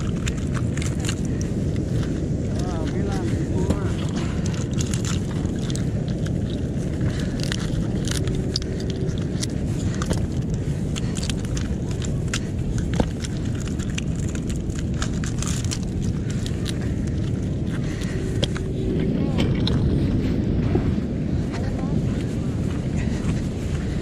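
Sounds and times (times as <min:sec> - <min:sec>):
mussel shells clattering: 0:00.0 - 0:20.0
steady low rumble: 0:00.0 - 0:24.0.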